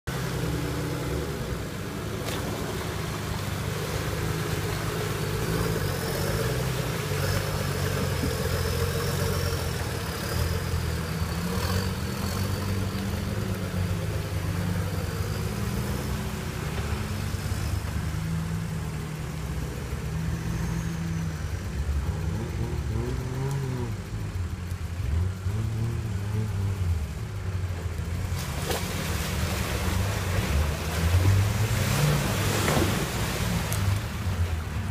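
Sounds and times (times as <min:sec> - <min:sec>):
off-road vehicle engine revving: 0:00.0 - 0:34.9.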